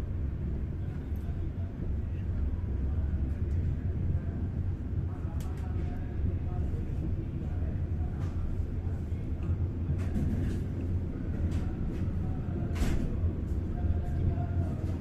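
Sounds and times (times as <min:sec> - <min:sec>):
train rumble from inside coach: 0:00.0 - 0:15.0.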